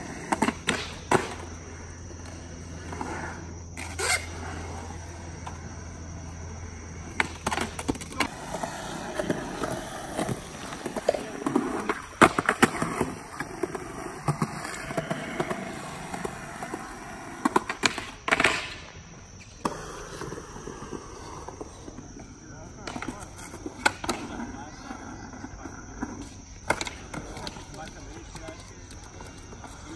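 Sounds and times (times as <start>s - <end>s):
skateboard wheels rolling on concrete: 0.0s - 29.9s
skateboards clacking down: 0.0s - 29.9s.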